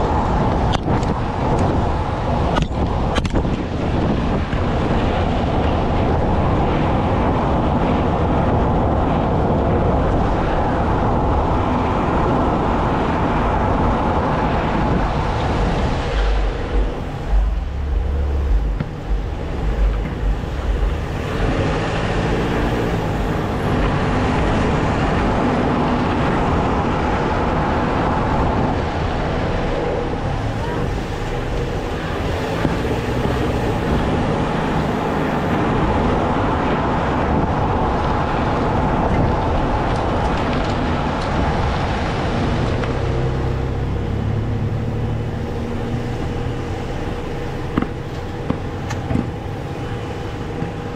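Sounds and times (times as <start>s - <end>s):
heavy low thumps and buffeting: 0.0s - 43.1s, 44.1s - 50.9s
tyre and road noise: 0.0s - 50.9s.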